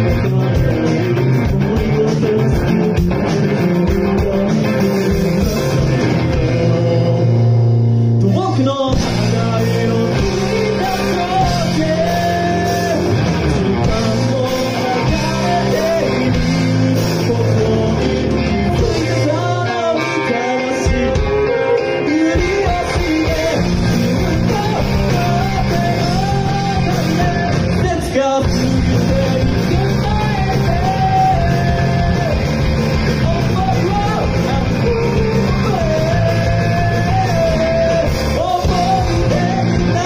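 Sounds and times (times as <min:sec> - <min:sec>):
bass guitar: 0:00.0 - 0:40.0
drum kit: 0:00.0 - 0:40.0
electric guitar: 0:00.0 - 0:40.0
person singing: 0:00.0 - 0:40.0.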